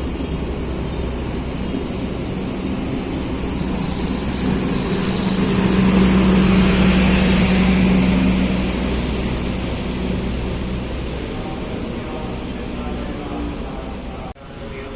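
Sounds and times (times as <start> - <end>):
train engine drone: 0.0 - 14.9.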